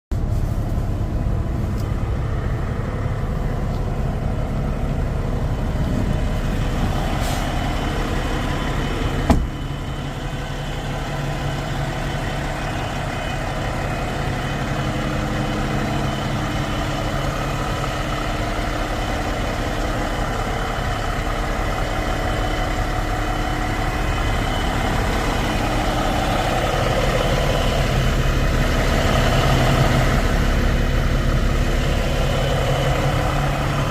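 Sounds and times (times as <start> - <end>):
truck diesel engine idling: 0.1 - 33.9.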